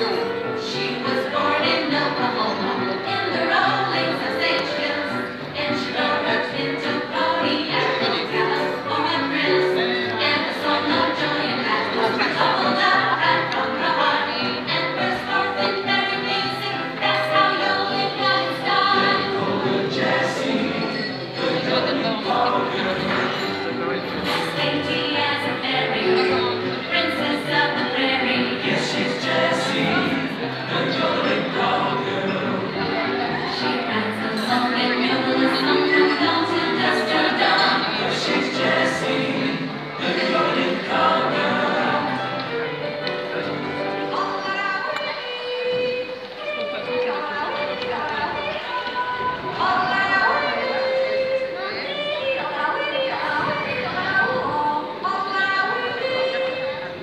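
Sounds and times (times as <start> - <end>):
group of voices singing: 0.0 - 57.0
instrumental backing music: 0.0 - 57.0.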